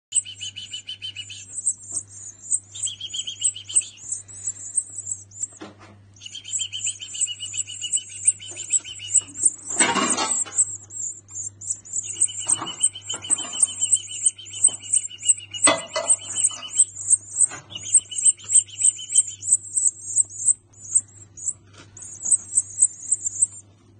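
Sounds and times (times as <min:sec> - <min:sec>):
nestlings begging chirps: 0:00.1 - 0:23.6
steady low hum: 0:00.1 - 0:23.9.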